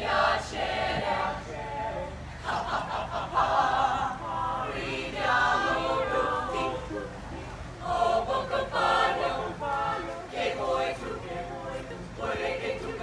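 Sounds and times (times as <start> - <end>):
mixed choir singing unaccompanied: 0.0 - 13.0.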